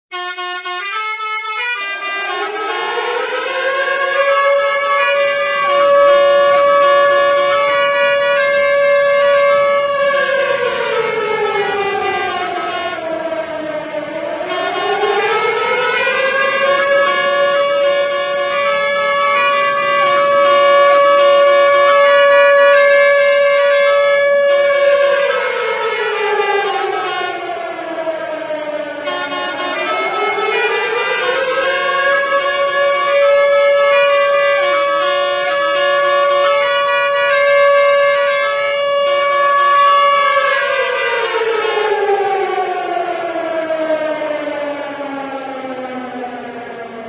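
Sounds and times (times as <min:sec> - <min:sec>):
warning siren wailing: 0:00.1 - 0:47.0.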